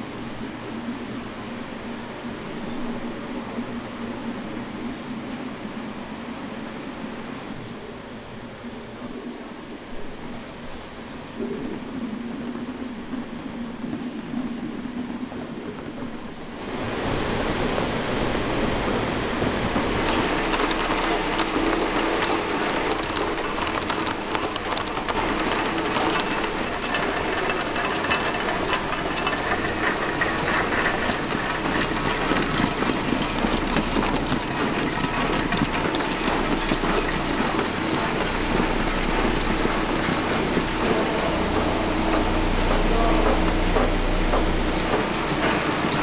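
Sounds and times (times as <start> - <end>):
factory machinery humming and rattling: 0.0 - 46.0.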